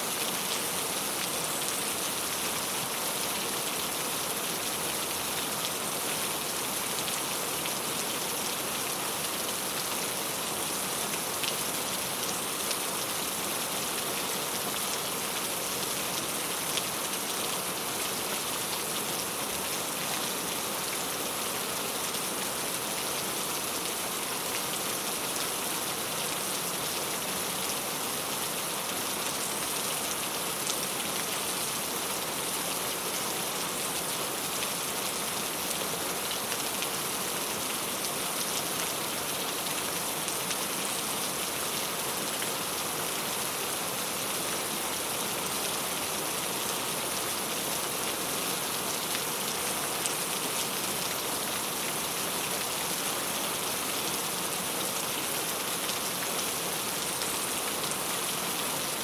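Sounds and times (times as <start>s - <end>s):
rain on a tile roof: 0.0s - 59.0s.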